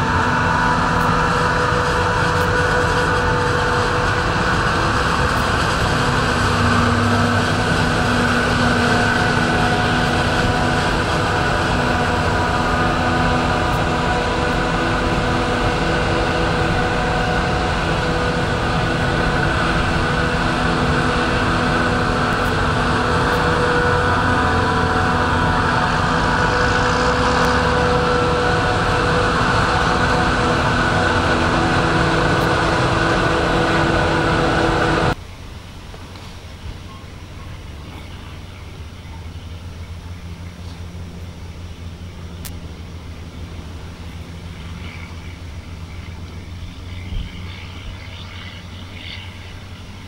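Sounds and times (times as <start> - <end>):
tractor engine droning: 0.0 - 50.0.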